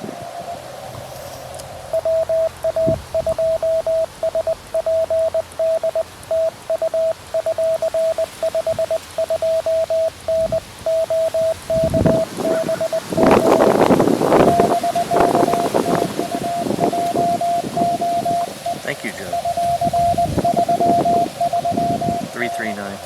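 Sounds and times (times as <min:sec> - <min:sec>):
morse code beeps: 0:00.0 - 0:01.1, 0:01.8 - 0:23.0.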